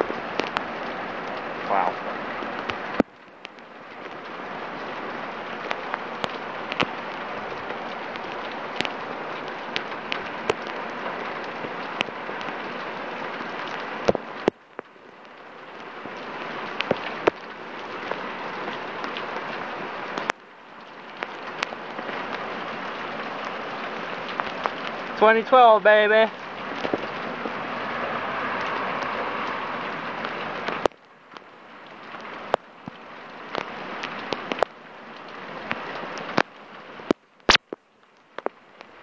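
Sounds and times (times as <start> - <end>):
raindrops ticking close by: 0.0 - 39.0
torrential rain: 0.0 - 39.0.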